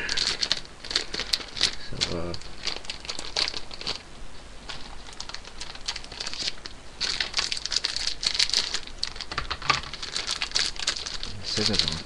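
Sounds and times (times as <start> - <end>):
scissors cutting wrapper: 0.0 - 4.0, 4.7 - 12.0
packaging wrapper crinkling: 0.0 - 12.0.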